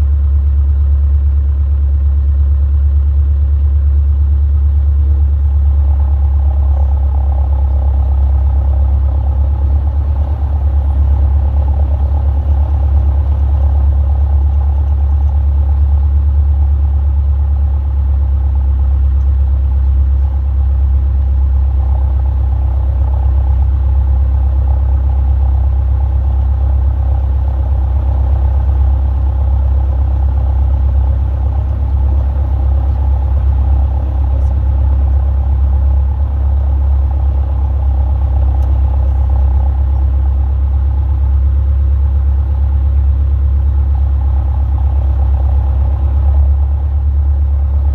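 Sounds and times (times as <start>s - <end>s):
light aircraft engine droning: 0.0s - 47.9s.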